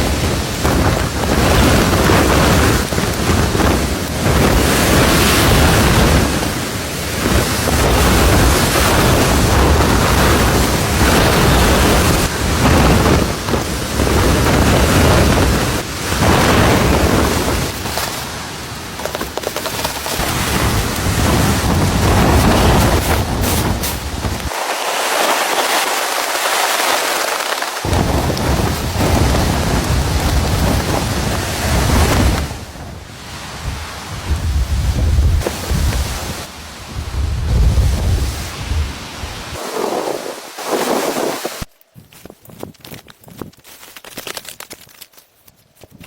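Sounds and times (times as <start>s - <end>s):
wind buffeting microphone: 0.0s - 25.2s, 27.8s - 43.6s.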